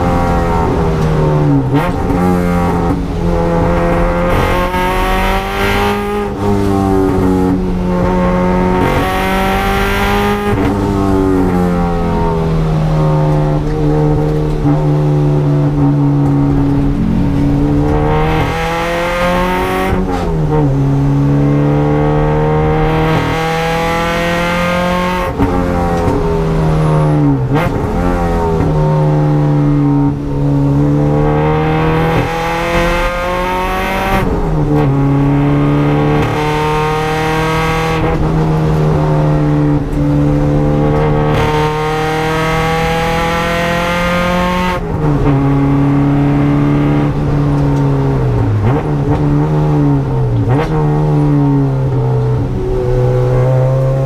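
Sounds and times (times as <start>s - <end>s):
car engine revving in cabin: 0.0s - 54.0s.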